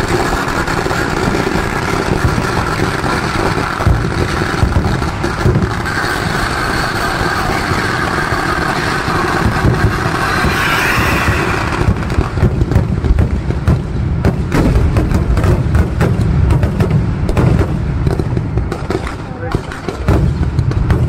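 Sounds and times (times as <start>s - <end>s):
firecrackers crackling and banging: 0.0s - 21.0s.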